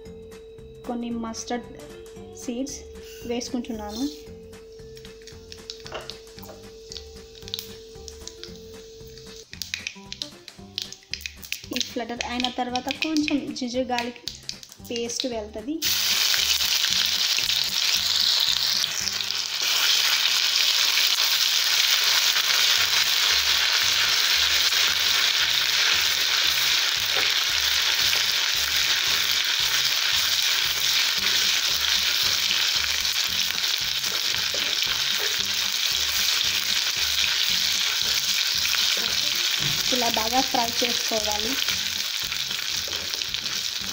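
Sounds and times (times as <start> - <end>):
paste sizzling in hot oil: 5.2 - 13.3, 15.8 - 43.9.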